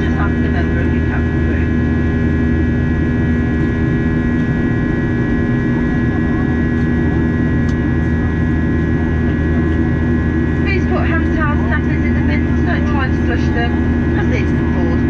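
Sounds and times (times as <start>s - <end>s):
airliner engine drone: 0.0s - 15.0s
high whine: 0.0s - 15.0s.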